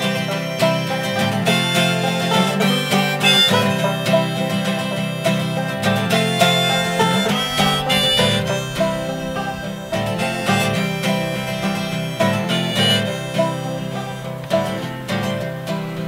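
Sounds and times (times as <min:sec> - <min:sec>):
acoustic guitar strumming: 0:00.0 - 0:16.0
banjo picking: 0:00.0 - 0:16.0
harmonica melody: 0:00.0 - 0:16.0.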